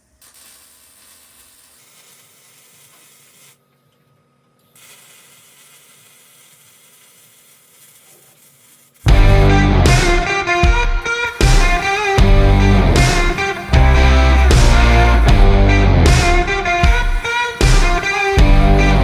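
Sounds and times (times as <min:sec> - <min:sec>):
welding arc sizzling: 0:00.0 - 0:03.6, 0:04.6 - 0:19.0.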